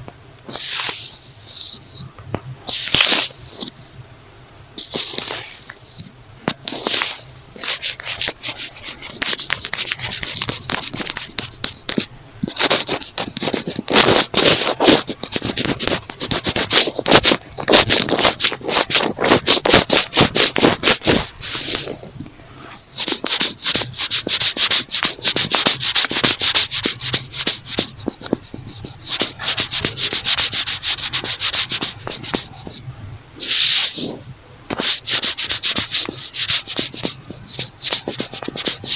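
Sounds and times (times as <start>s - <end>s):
fingernails scratching notebook cover: 0.5s - 1.9s, 4.8s - 5.8s, 6.5s - 32.8s, 33.4s - 38.9s.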